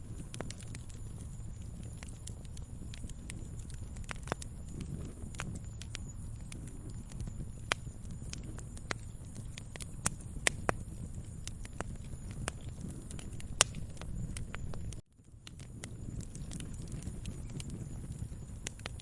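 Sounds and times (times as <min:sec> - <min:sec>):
fire pops and snaps: 0:00.0 - 0:19.0
low rumble of flames: 0:00.0 - 0:19.0.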